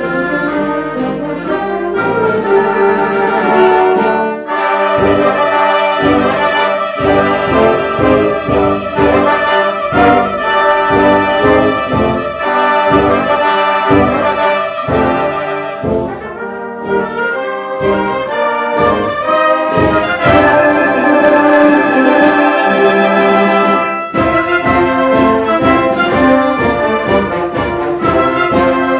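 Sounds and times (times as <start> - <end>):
wind band playing: 0.0 - 28.9
percussion hits: 1.9 - 28.9.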